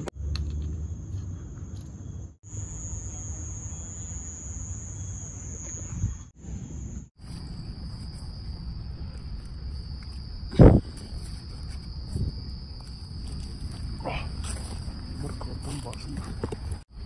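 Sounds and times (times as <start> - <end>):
insects chirring: 0.2 - 17.0.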